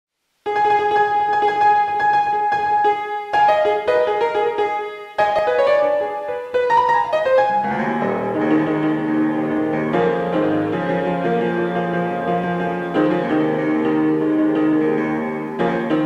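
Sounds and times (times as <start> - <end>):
low piano chords: 0.4 - 16.0
slow piano melody: 0.4 - 16.0.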